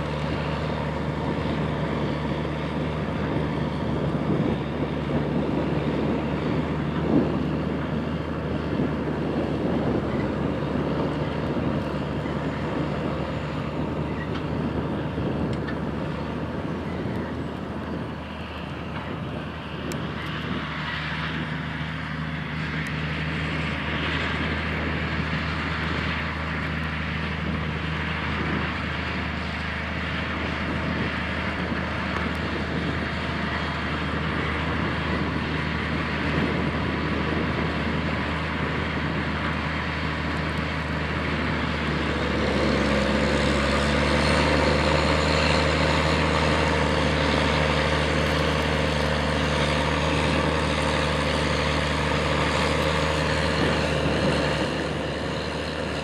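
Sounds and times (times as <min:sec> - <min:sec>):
tractor diesel engine droning: 0:00.0 - 0:56.0.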